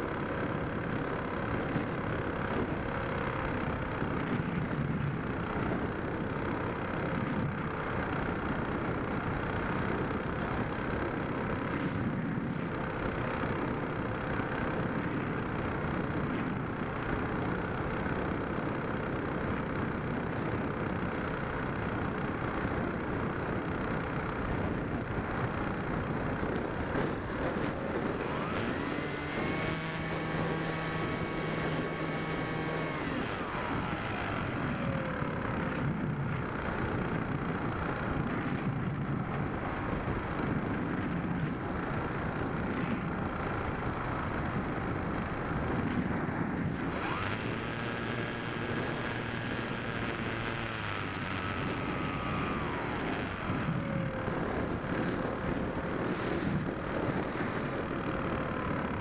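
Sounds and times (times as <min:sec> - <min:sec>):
electric motor whine: 0:00.0 - 0:11.9, 0:21.8 - 0:59.0
rush of wind: 0:00.0 - 0:59.0.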